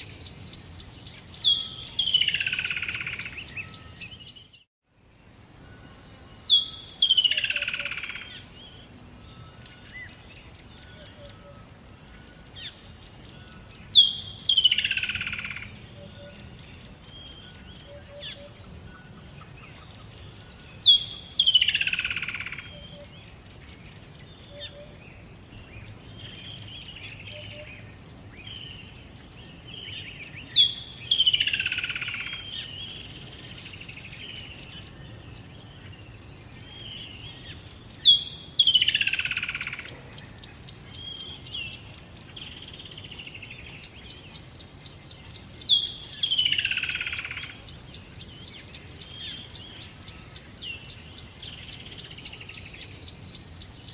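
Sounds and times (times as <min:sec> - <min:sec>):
bird song with falling trill: 0:00.0 - 0:53.9
birds chirping softly: 0:00.0 - 0:53.9.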